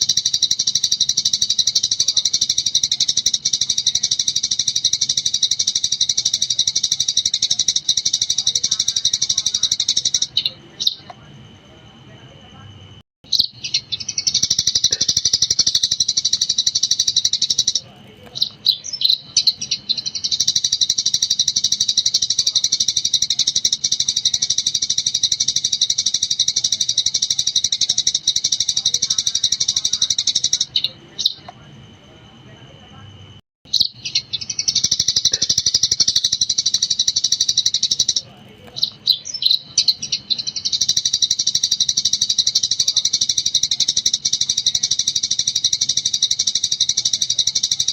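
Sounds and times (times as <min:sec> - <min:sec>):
sparrow chirping: 0:00.0 - 0:11.2, 0:13.2 - 0:31.7, 0:33.7 - 0:47.9.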